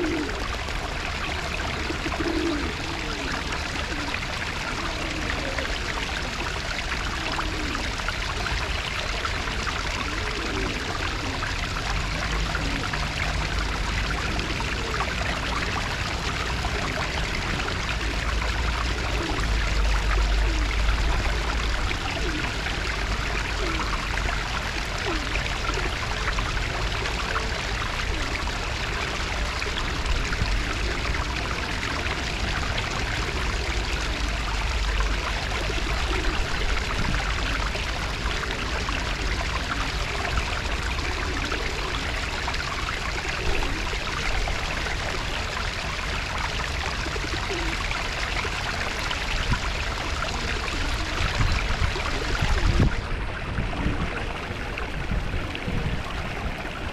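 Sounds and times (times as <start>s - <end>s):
running water splashing: 0.0s - 56.9s.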